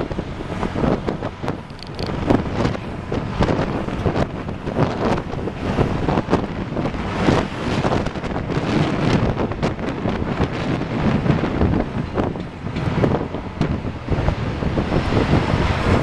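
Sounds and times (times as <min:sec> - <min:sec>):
traffic rumble: 0:00.0 - 0:16.0
wind buffeting microphone: 0:00.0 - 0:16.0.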